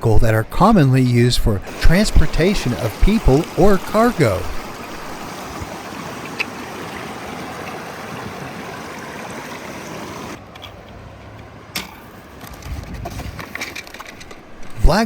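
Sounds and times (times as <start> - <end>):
running water rushing: 0.0 - 11.7, 13.4 - 15.0.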